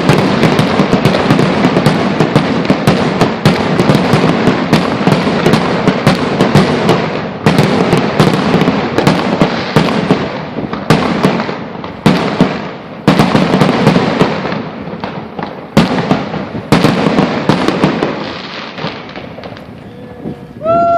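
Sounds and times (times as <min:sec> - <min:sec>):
fireworks bangs and crackling: 0:00.0 - 0:20.9.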